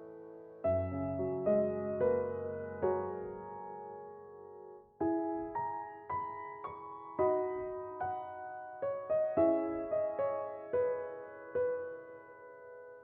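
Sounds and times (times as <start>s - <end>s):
soft solo piano: 0.0s - 13.0s.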